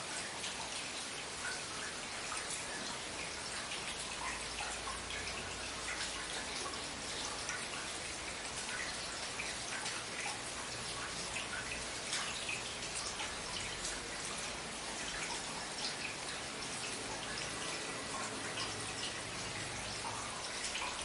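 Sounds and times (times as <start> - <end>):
rain drops ticking and dripping: 0.0 - 21.0.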